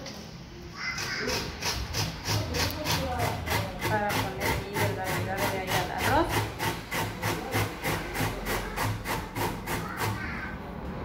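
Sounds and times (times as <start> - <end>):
carrot grated on metal grater: 1.2 - 10.5.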